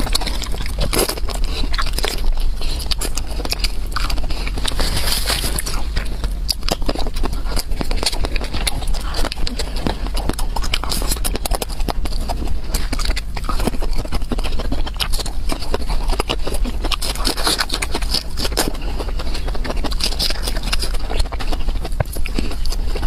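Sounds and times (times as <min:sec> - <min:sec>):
person chewing and smacking: 0:00.0 - 0:23.0.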